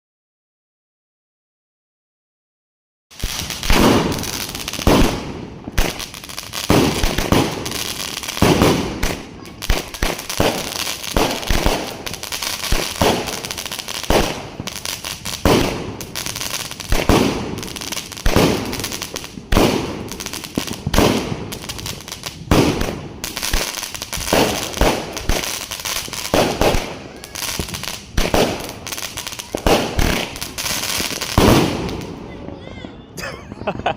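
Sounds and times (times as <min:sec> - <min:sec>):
firework bangs: 0:03.1 - 0:33.9.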